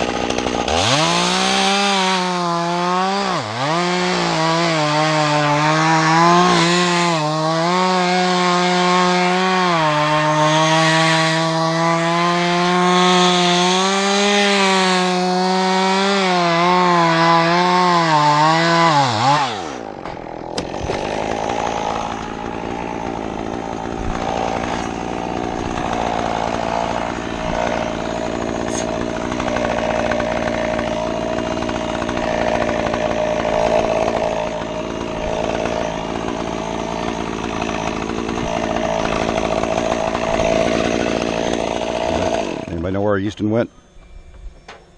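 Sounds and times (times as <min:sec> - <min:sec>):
chainsaw engine running at high revs: 0:00.0 - 0:43.5.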